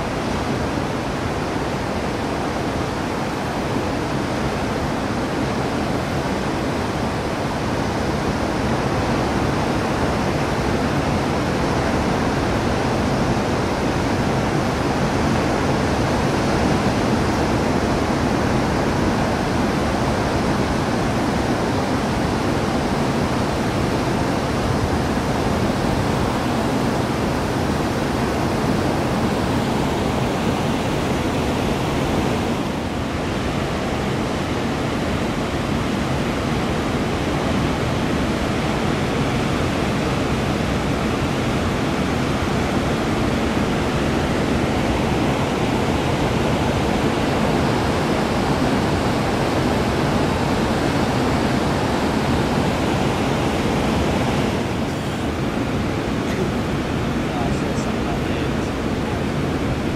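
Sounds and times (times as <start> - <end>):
heavy ocean surf: 0.0 - 59.9
wind: 0.0 - 59.9.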